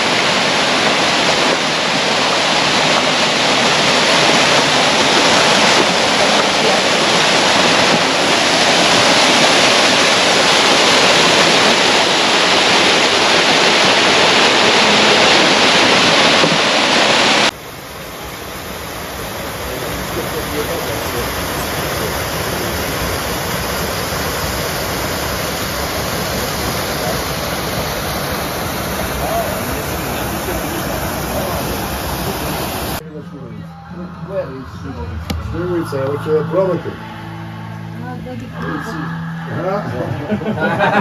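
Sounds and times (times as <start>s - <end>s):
waterfall splashing into pool: 0.0s - 33.0s.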